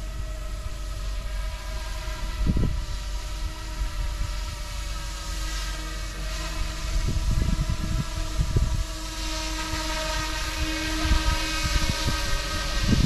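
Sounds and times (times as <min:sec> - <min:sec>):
model helicopter motor whine: 0:00.0 - 0:13.0
wind rumble on microphone: 0:00.0 - 0:13.0.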